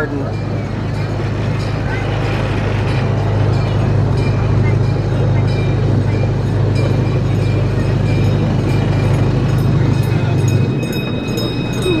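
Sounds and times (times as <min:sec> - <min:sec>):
train running on track: 0:00.0 - 0:12.0.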